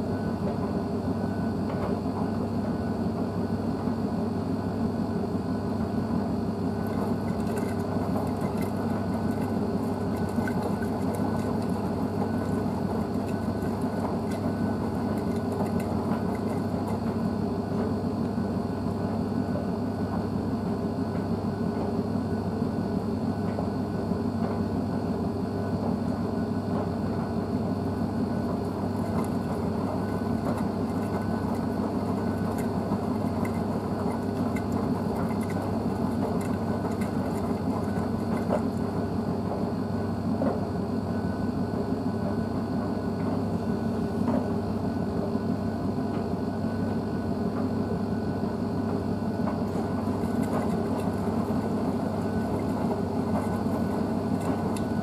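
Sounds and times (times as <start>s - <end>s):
washing machine tumbling laundry: 0.0s - 55.0s.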